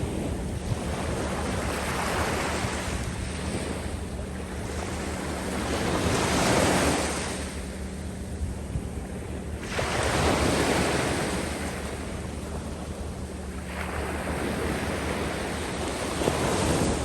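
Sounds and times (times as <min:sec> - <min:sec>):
small waves washing on sand: 0:00.0 - 0:07.6, 0:09.6 - 0:13.0, 0:13.6 - 0:17.0
wind rumbling on microphone: 0:00.0 - 0:17.0.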